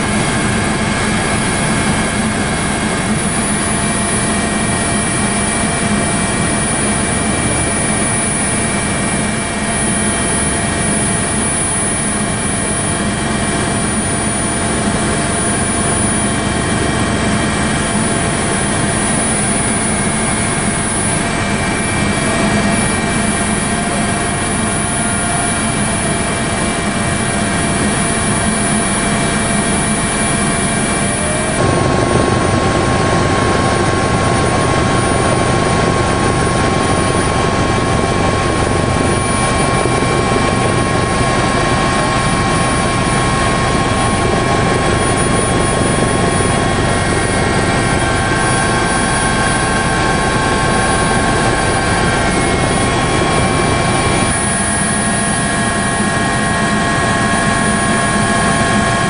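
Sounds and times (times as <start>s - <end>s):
helicopter drone from on board: 0.0s - 59.0s.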